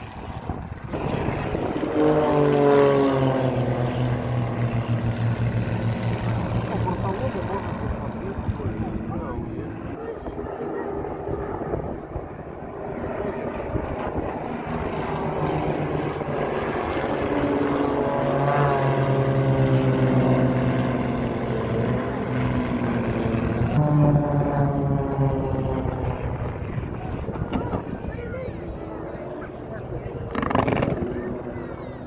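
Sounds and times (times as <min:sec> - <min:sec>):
propeller planes droning overhead: 0:00.0 - 0:32.0.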